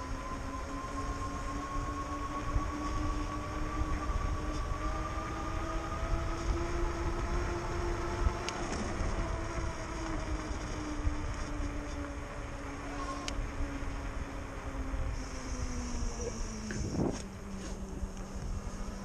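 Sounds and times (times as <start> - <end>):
electric bike motor whining: 0.0 - 19.0
wind rumbling on microphone: 0.0 - 19.0.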